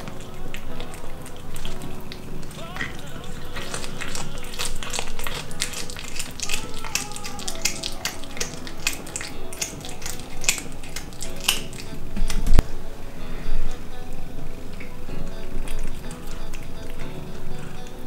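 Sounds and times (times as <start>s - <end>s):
cat chewing wet crunchy: 0.0s - 18.0s.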